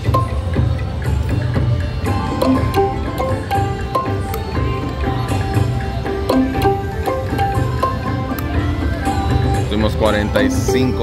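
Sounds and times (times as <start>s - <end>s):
plucked-string game music: 0.0s - 11.0s.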